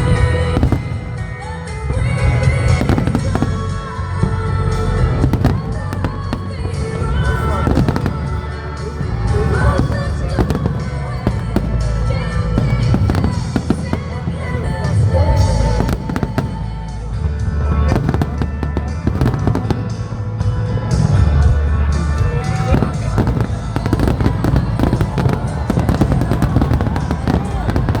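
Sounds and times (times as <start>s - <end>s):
fireworks cracking and booming: 0.0s - 28.0s
music: 0.0s - 28.0s.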